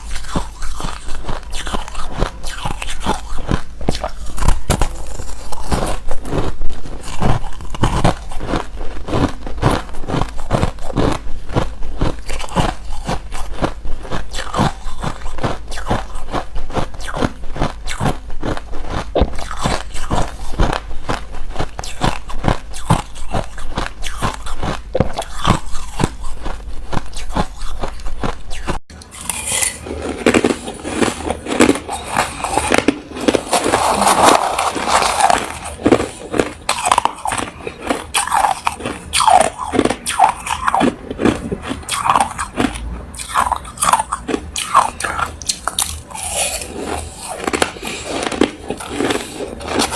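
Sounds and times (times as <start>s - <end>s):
ice being chewed: 0.0s - 49.9s.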